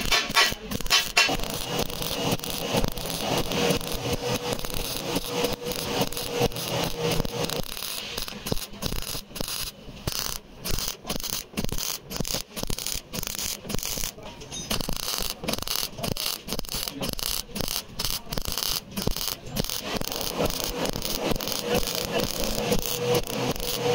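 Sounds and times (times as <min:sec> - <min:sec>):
welding arc crackling in pulses: 0:00.0 - 0:23.9.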